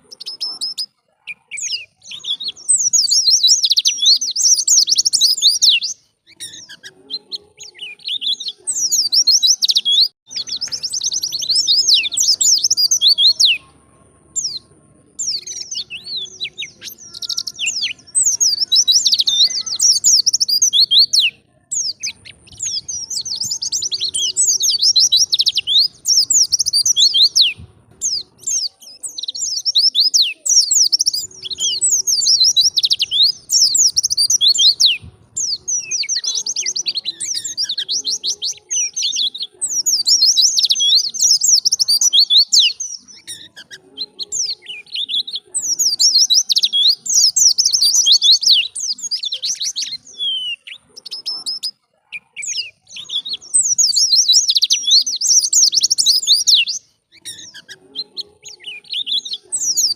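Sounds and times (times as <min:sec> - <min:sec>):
bird twittering: 0:00.0 - 0:13.8, 0:14.4 - 0:59.9.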